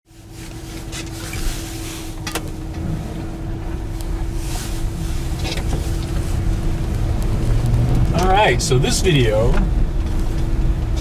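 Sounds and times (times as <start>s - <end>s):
truck cab rumble and hum: 0.1s - 11.0s.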